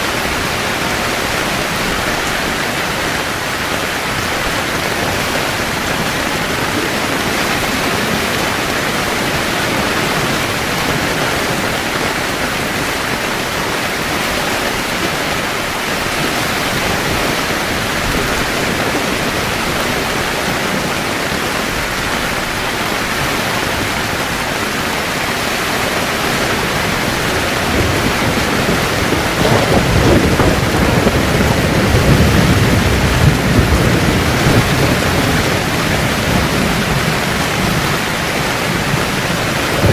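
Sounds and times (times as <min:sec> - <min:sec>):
heavy rain on a tent: 0:00.0 - 0:39.9
thunder rumbling: 0:00.1 - 0:39.9.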